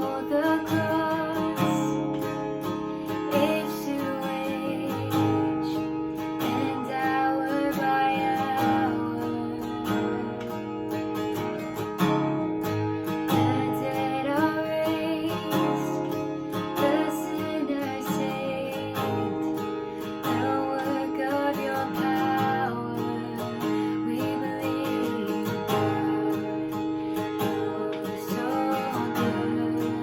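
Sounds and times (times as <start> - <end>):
strummed acoustic guitar music: 0.0 - 30.0.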